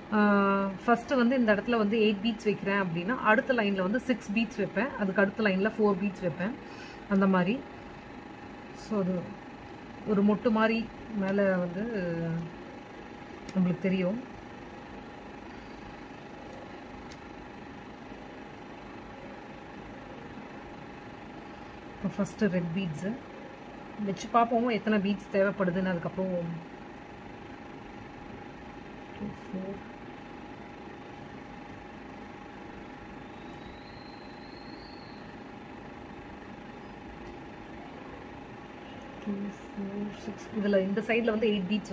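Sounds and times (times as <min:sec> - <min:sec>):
faint constant whine: 0:00.0 - 0:41.9
steady background hum: 0:00.0 - 0:41.9.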